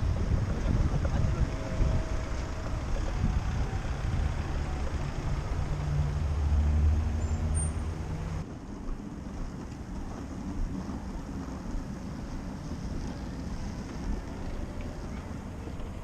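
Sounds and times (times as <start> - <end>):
large vehicle engine drone: 0.0 - 16.0
street traffic noise: 0.0 - 16.0.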